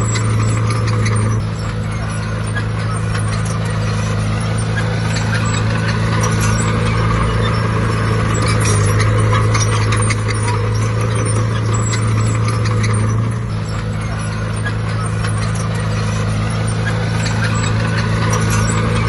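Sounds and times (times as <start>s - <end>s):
diesel engine running under load: 0.0s - 19.0s
metallic clicks and clanks: 0.0s - 19.0s.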